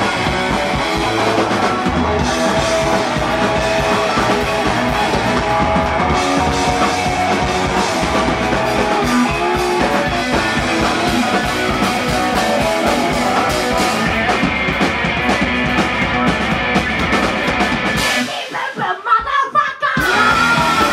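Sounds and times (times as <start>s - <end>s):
punk rock band playing live: 0.0s - 18.9s, 19.9s - 20.9s.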